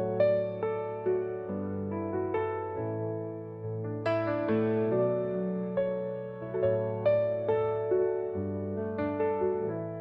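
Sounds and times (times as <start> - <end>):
gentle piano playing: 0.0 - 10.0.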